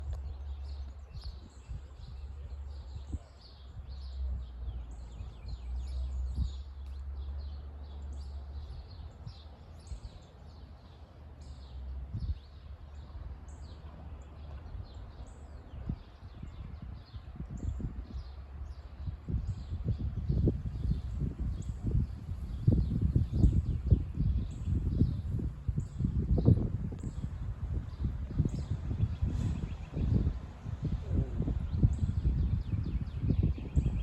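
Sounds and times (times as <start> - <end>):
small birds chirping: 0.0 - 34.0
wind buffeting microphone: 0.0 - 34.0.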